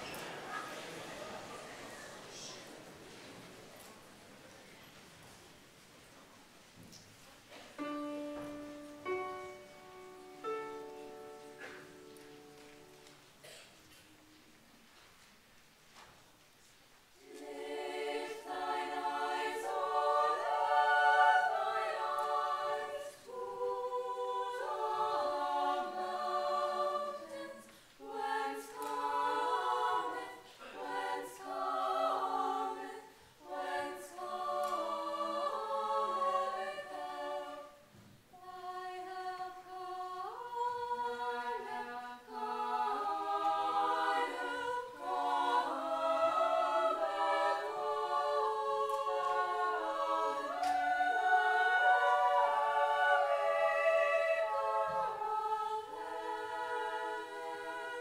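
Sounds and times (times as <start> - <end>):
women's choir singing unaccompanied: 7.4 - 13.6, 17.1 - 58.0.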